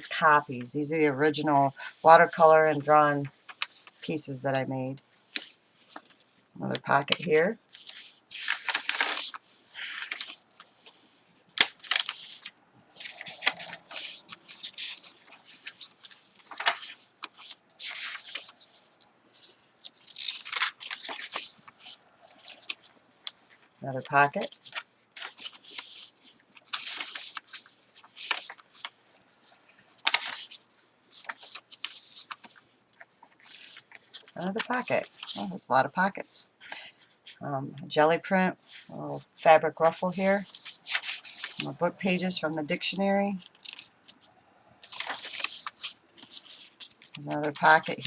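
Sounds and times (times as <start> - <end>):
paper pages turning and rustling: 0.1 - 4.1, 5.1 - 37.4, 38.6 - 48.0.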